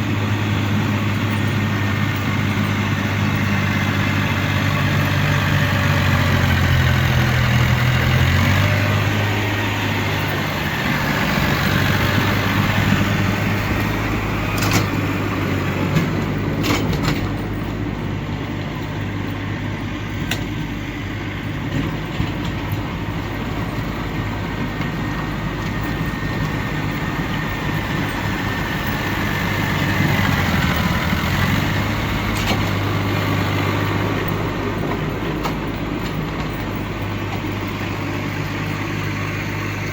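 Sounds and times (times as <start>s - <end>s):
snow-clearing machine engine running: 0.0s - 39.9s.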